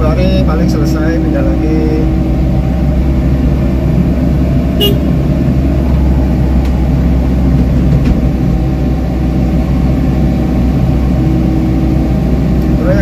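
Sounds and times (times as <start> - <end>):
diesel excavator engine running: 0.0 - 13.0.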